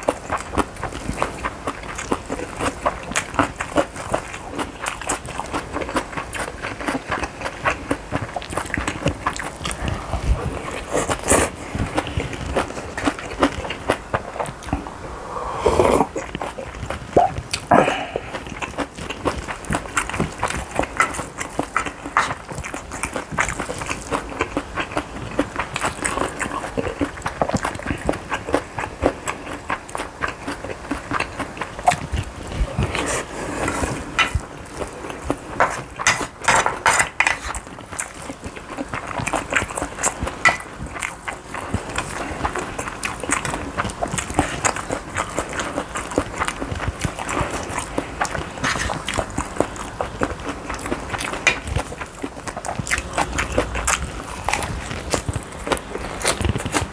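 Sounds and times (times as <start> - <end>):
mouth chewing and smacking: 0.0 - 56.9.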